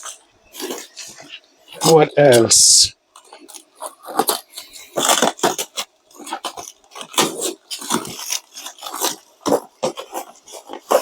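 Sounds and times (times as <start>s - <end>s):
packaging rustling and crinkling: 0.0s - 2.0s, 3.0s - 11.0s.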